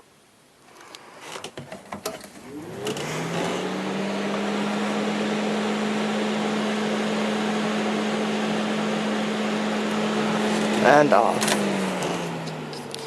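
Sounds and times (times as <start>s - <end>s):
vent fan motor humming: 0.9s - 13.0s.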